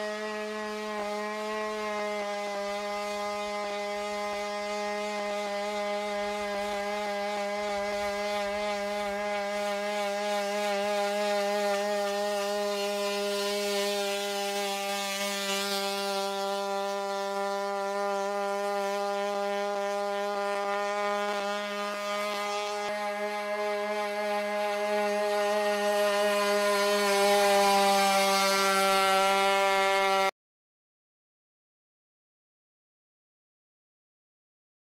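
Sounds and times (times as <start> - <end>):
buzzy engine running: 0.0 - 30.3.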